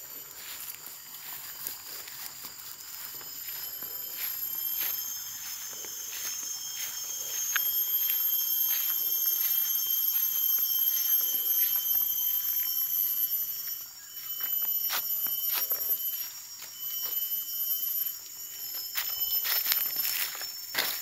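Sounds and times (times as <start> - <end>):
footsteps through grass and leaves: 0.0 - 21.0
high-pitched insect drone: 0.0 - 21.0.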